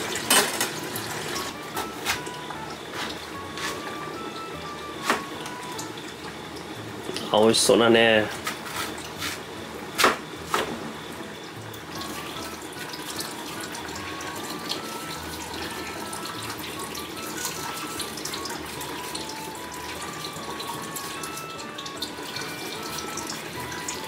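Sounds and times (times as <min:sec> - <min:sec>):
tap water running into sink: 0:00.0 - 0:07.2, 0:11.4 - 0:24.0
light background music: 0:00.0 - 0:24.0.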